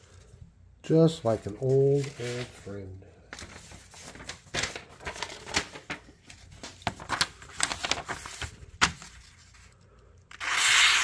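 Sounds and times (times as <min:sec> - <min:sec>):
paper rustling: 0:01.2 - 0:11.0.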